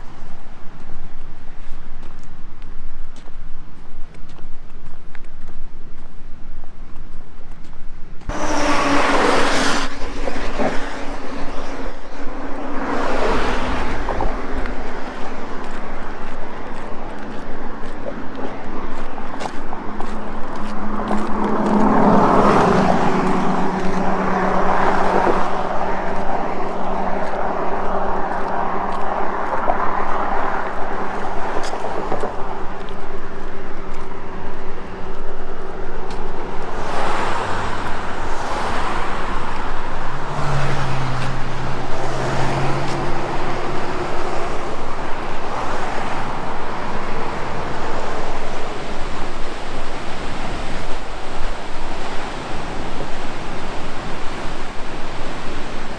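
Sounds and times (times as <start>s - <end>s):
rushing water roar: 8.0s - 55.9s.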